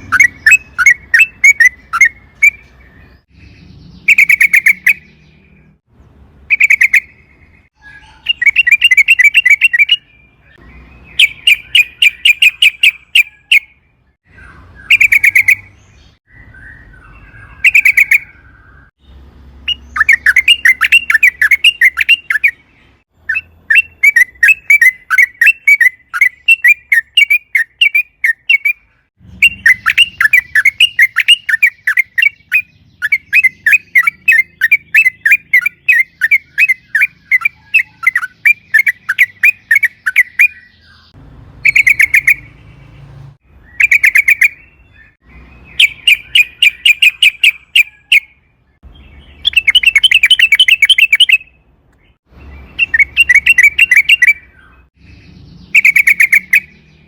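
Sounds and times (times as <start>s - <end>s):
bird chattering chirps: 0.0s - 5.8s, 6.5s - 18.9s, 19.6s - 57.0s.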